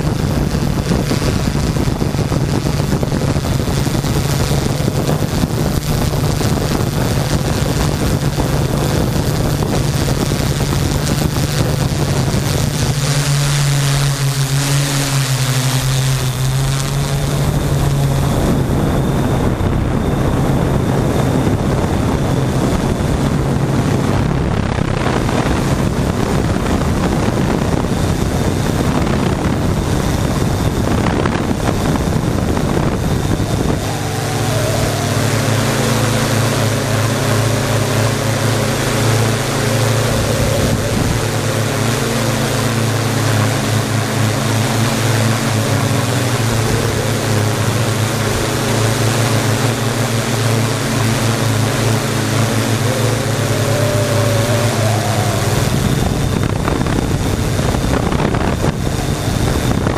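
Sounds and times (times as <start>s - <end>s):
drone propellers whirring: 0.0s - 59.9s
low hum with wavering tone: 0.0s - 59.9s
wind rushing over microphone: 0.0s - 59.9s.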